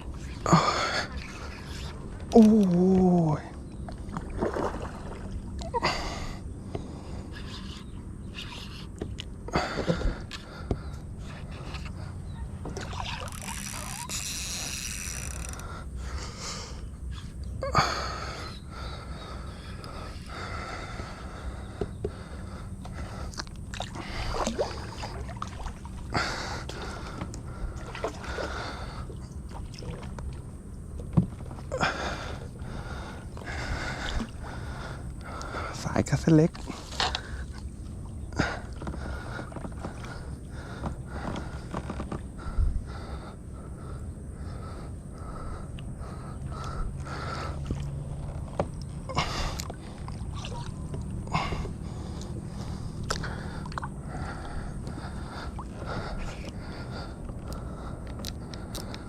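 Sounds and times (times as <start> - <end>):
water splashing around kayak: 0.0 - 5.8, 6.8 - 17.4, 18.2 - 59.0
steady low rumble: 0.0 - 13.4, 15.4 - 59.0.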